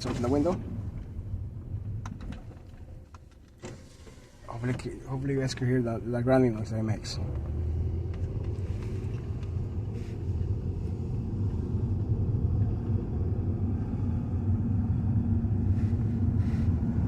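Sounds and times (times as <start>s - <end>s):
car road rumble from inside: 0.0s - 17.0s.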